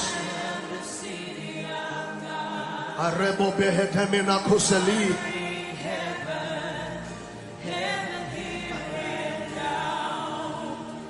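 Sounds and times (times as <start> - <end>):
slow gospel worship music: 0.0 - 11.0.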